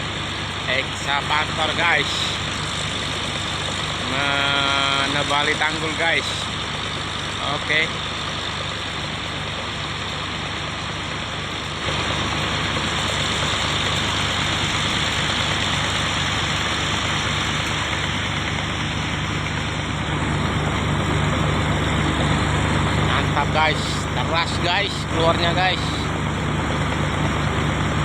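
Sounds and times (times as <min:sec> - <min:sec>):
diesel water pump engine running: 0:00.0 - 0:28.0.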